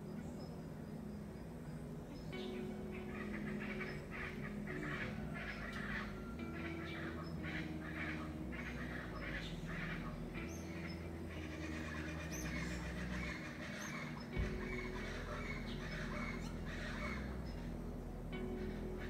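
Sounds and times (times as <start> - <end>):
low sustained tones: 0.0 - 19.0
birds giving harsh calls: 1.6 - 19.0.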